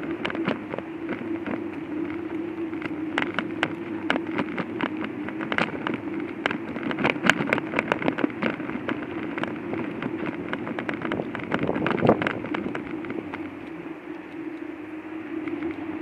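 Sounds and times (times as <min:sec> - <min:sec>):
hoverboard motor hum: 0:00.0 - 0:16.0
wheels clicking and knocking: 0:00.0 - 0:16.0.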